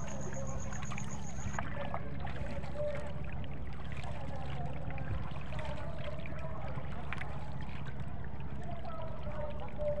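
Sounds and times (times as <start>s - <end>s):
paddle pulling through water: 0.0s - 10.0s
water gurgling along hull: 0.0s - 10.0s.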